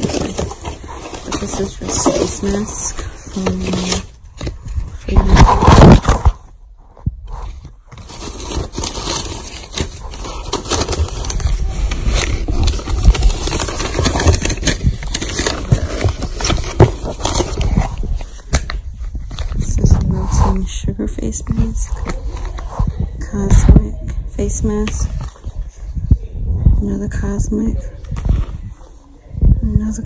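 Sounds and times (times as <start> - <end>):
scraping and rustling handling noise: 0.0 - 26.4, 27.9 - 29.4.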